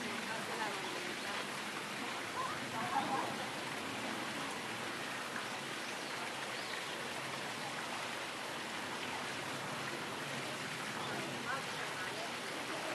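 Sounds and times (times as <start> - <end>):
outdoor ambient hiss: 0.0 - 12.9.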